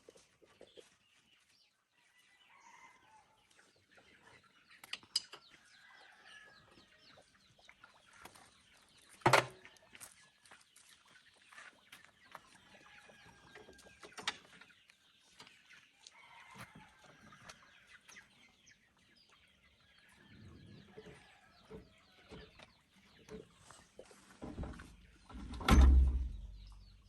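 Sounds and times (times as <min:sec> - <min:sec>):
chickens clucking: 0:00.0 - 0:01.5, 0:02.2 - 0:27.0.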